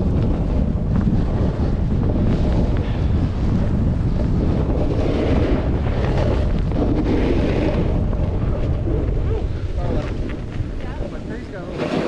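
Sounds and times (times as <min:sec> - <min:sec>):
skis sliding on snow: 0:00.0 - 0:12.0
wind buffeting microphone: 0:00.0 - 0:12.0.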